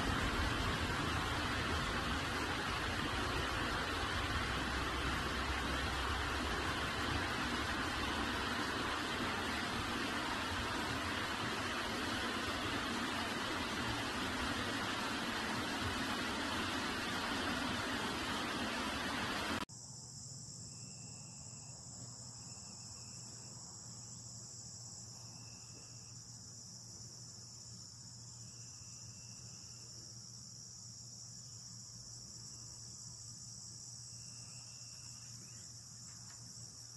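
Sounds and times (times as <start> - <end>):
crickets trilling: 0.0 - 18.8, 19.7 - 36.9
low short insect call: 0.0 - 36.9.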